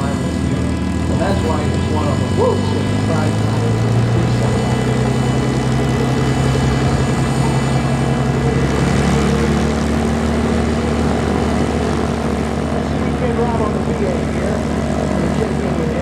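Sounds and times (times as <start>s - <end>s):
propeller plane droning: 0.0s - 16.0s.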